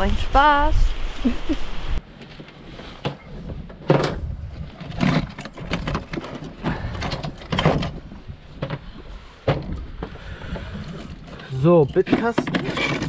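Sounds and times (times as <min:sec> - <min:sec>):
knocks clicks and clatter: 0:02.3 - 0:13.0.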